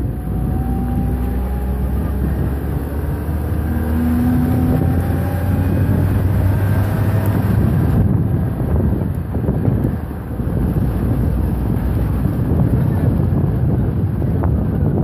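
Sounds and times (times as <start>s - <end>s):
tyres rumbling on dirt road: 0.0s - 15.0s
vehicle engine running: 0.0s - 15.0s
wind on microphone: 0.0s - 15.0s.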